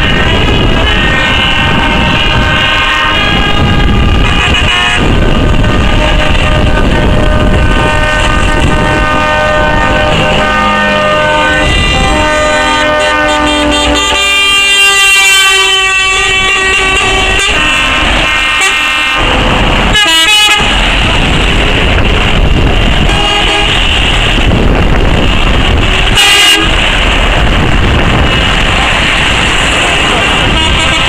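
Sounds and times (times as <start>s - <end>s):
truck air horns: 0.0s - 31.0s
truck engines: 0.0s - 31.0s.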